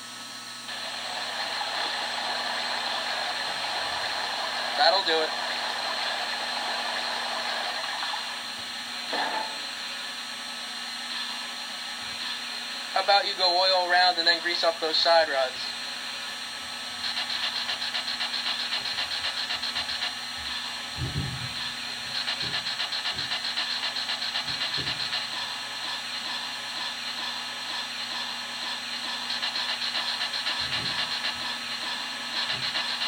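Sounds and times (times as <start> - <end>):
pulsing steam hiss: 0.7 - 33.0.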